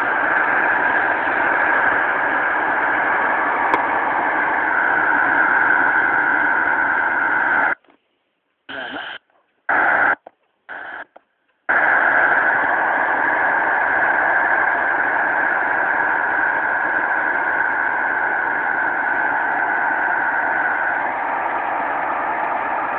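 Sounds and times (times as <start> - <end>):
shortwave radio static hiss: 0.0 - 7.9, 8.6 - 22.9.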